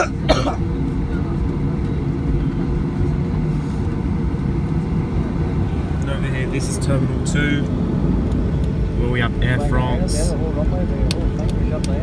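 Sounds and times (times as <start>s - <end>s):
airplane engines idling: 0.0s - 12.0s.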